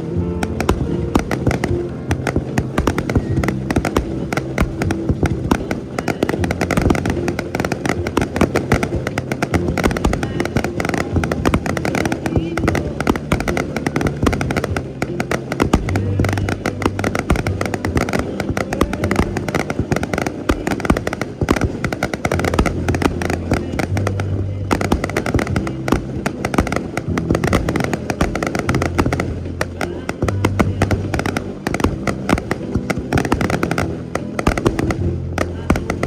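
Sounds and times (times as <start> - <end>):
fireworks cracking and banging: 0.0 - 36.0
people's voices: 0.0 - 36.0.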